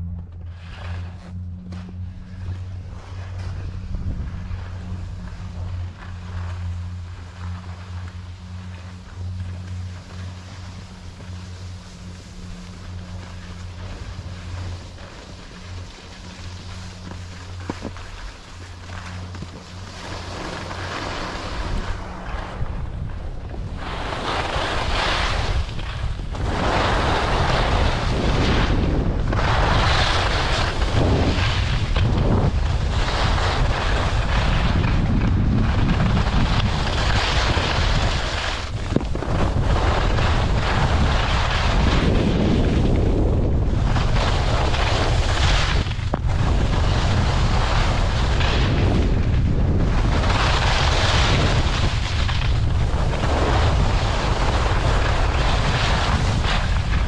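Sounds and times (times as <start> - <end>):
wind buffeting microphone: 0.0 - 57.0
skis scraping on hard snow: 0.1 - 57.0.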